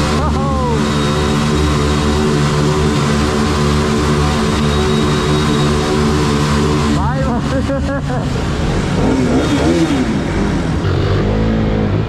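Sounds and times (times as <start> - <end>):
motorcycle engines at high revs: 0.0 - 12.0.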